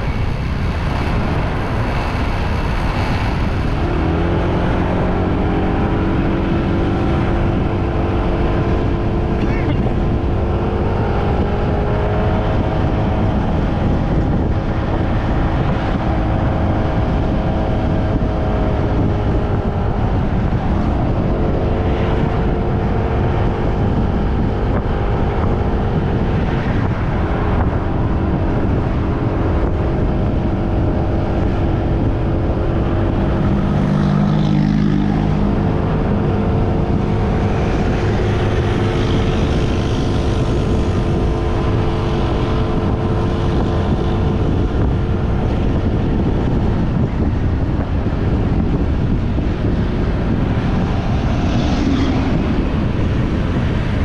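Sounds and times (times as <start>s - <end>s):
motorbike engine cruising: 0.0s - 54.0s
wind on microphone: 0.0s - 54.0s.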